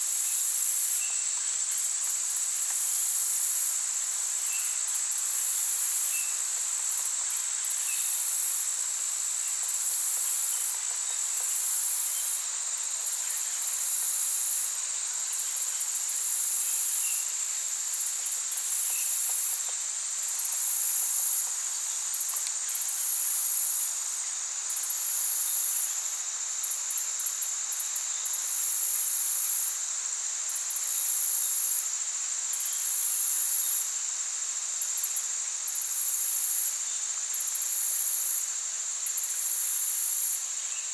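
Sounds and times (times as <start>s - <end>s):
faint steady hiss: 0.0s - 40.9s
higher insect trill bursts: 0.0s - 40.9s
insects trilling: 0.0s - 40.9s.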